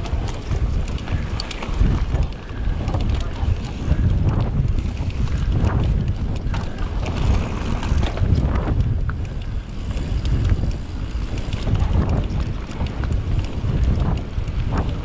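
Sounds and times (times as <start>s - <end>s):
small clicks and rattles: 0.0s - 15.0s
wind buffeting microphone: 0.0s - 15.0s.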